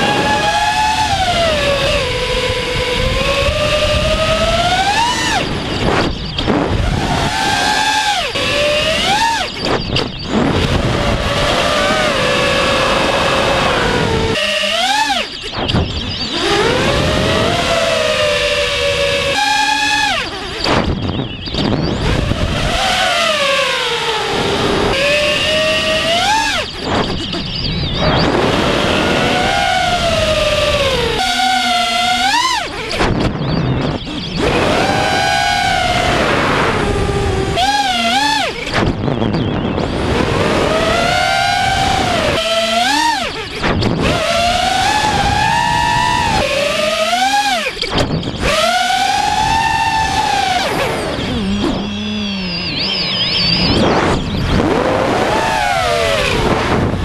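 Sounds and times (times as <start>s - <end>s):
wind rushing over camera: 0.0s - 14.4s, 15.5s - 57.0s
drone motors whining: 0.0s - 57.0s.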